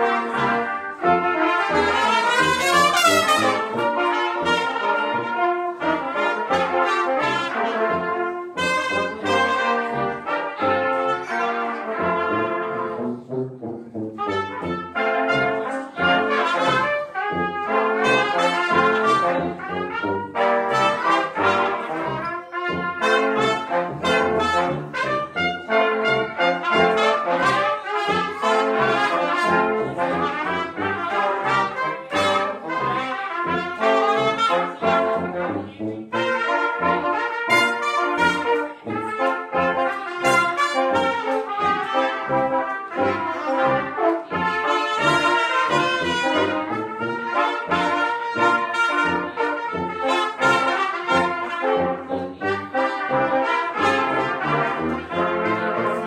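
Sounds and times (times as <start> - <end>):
brass quintet playing: 0.0 - 56.0.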